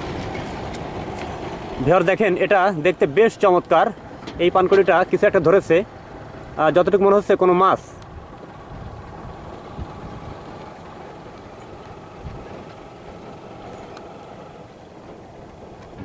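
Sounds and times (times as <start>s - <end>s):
low rumble of distant engines: 0.0s - 16.0s.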